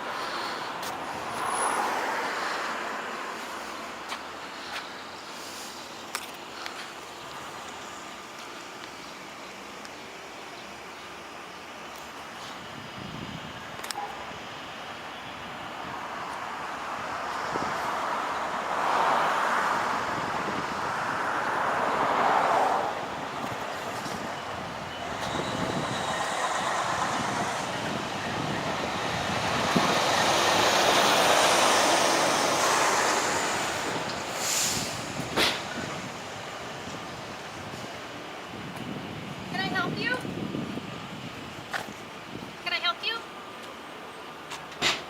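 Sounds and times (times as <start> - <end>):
vehicles passing: 0.0 - 45.0.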